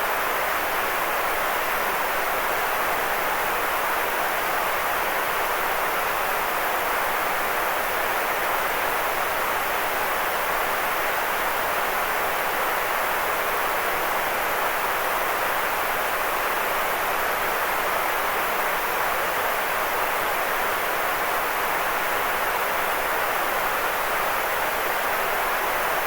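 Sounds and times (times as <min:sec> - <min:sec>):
white noise hiss: 0:00.0 - 0:26.0.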